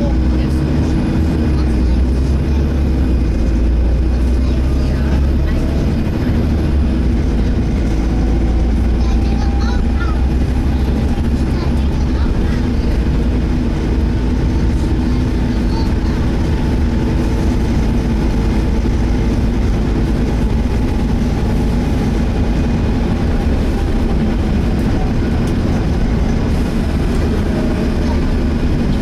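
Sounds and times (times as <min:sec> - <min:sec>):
bus diesel engine running: 0:00.0 - 0:29.0
engine cooling fan whirring: 0:00.0 - 0:29.0.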